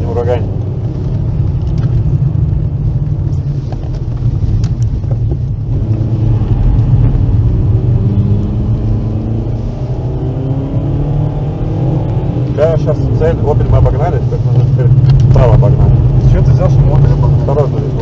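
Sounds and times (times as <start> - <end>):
car engine running: 0.0 - 18.0
road rumble inside car: 0.0 - 18.0.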